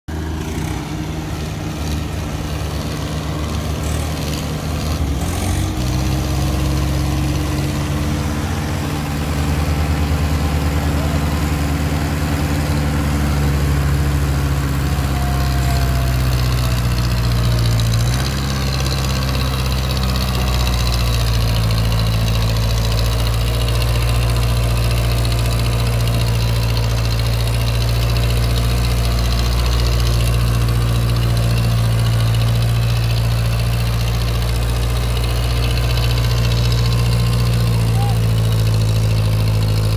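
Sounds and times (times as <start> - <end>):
tractor diesel engine working hard: 0.1 - 39.9.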